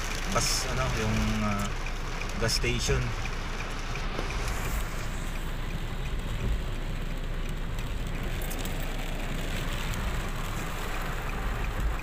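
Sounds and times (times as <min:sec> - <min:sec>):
heavy rain on a car: 0:00.0 - 0:12.0
tyres on wet road: 0:00.0 - 0:12.0.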